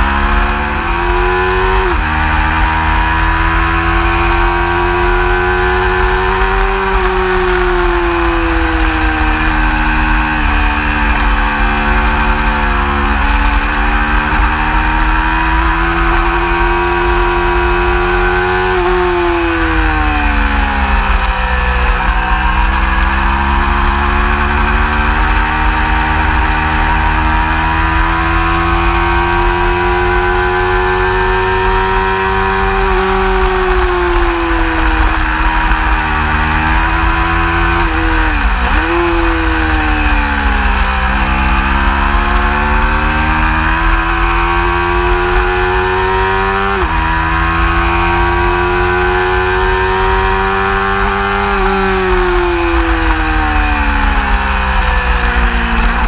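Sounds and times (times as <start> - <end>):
racing motorcycle engine: 0.0 - 56.0.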